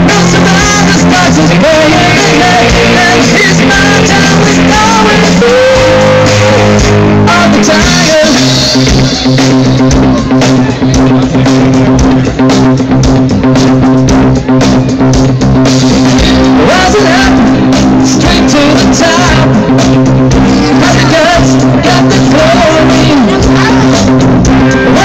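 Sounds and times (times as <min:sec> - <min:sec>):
drum kit steady beat: 0:00.0 - 0:25.0
electric guitars holding chords: 0:00.0 - 0:25.0.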